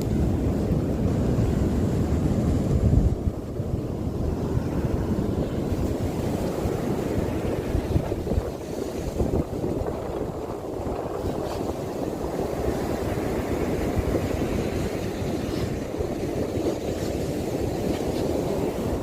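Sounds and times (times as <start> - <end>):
sea surf on beach: 0.0 - 19.0
wind buffeting microphone: 0.0 - 19.0.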